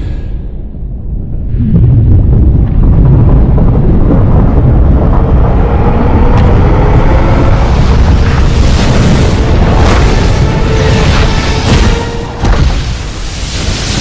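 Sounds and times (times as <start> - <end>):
deep rumble: 0.0 - 14.0
rushing noise: 0.0 - 14.0.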